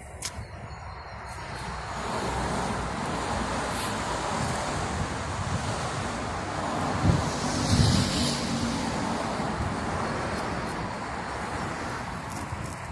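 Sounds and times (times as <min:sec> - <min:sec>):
road vehicle noise: 0:00.0 - 0:12.9
wind on microphone: 0:00.0 - 0:12.9
vehicle passing: 0:01.6 - 0:12.9.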